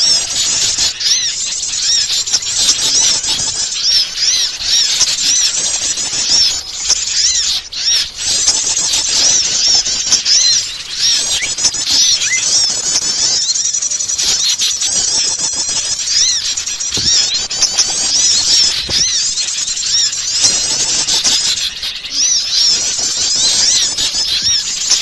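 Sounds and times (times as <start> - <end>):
songbirds chirping and twittering: 0.0 - 25.0.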